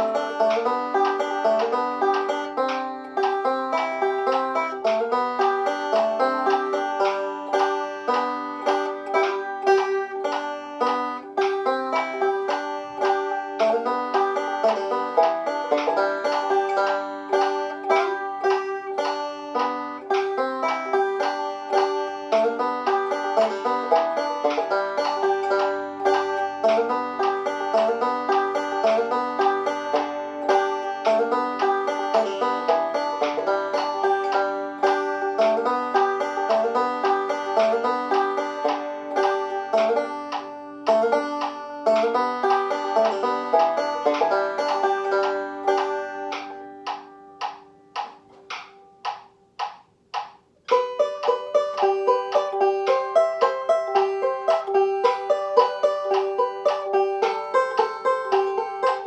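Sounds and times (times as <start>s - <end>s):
banjo picking: 0.0s - 59.0s.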